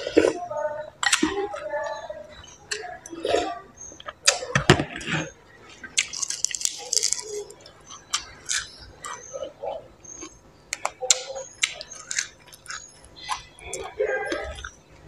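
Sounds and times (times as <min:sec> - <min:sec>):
wet chewing and crunching: 0:00.0 - 0:15.0.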